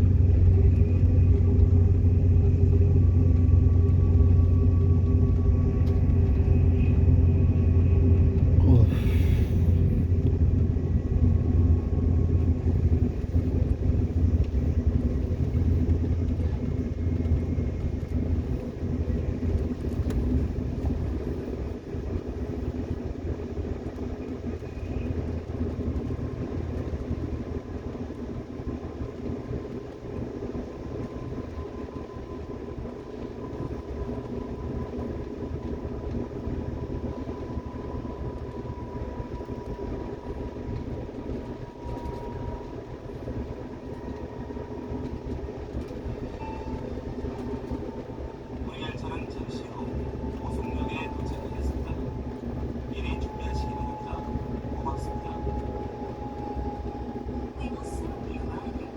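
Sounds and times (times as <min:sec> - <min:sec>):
faint steady whine: 0:00.0 - 0:58.9
subway train low rumble: 0:00.0 - 0:58.9.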